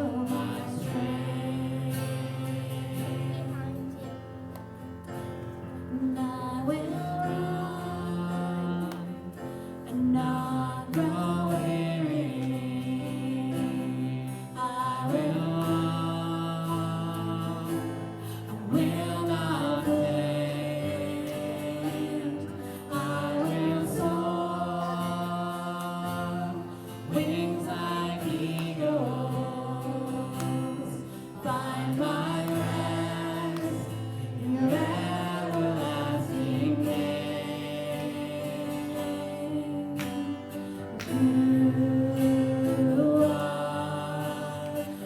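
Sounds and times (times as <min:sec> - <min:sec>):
voices singing gospel: 0:00.0 - 0:45.0.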